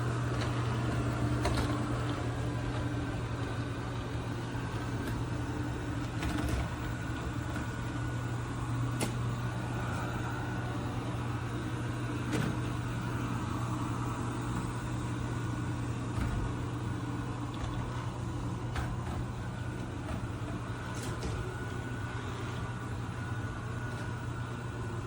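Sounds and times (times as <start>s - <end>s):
robot vacuum humming: 0.0s - 25.0s.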